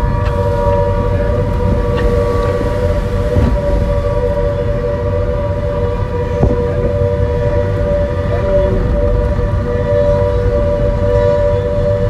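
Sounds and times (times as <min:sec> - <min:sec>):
two-tone warning siren: 0:00.0 - 0:12.0.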